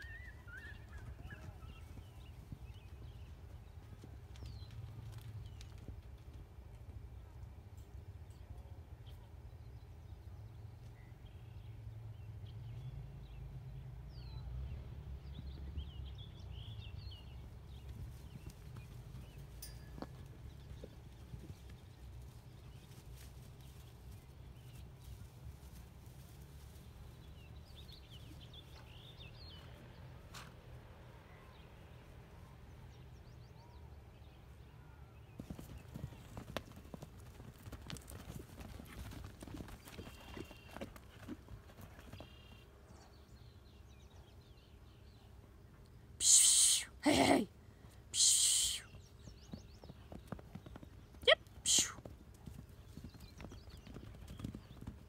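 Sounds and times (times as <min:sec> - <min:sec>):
small birds chirping: 0:00.0 - 0:06.4, 0:09.0 - 0:55.0.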